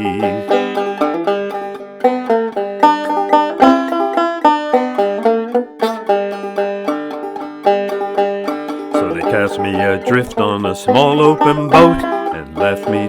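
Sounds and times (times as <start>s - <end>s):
banjo playing: 0.0s - 13.0s.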